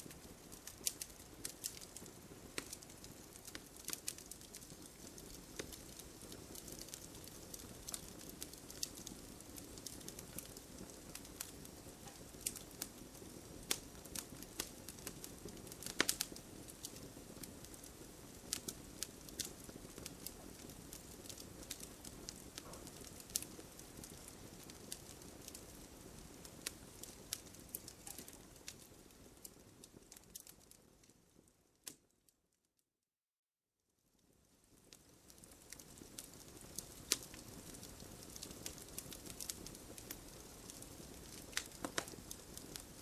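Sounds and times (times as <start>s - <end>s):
wood campfire crackling: 0.0s - 32.2s, 34.1s - 43.0s.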